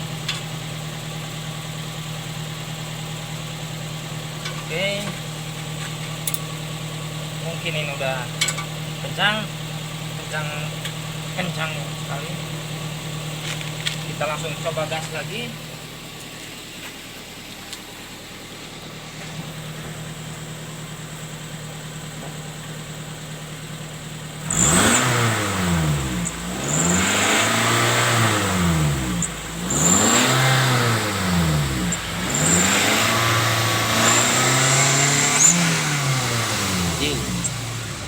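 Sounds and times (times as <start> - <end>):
engine idling and revving: 0.0 - 38.0.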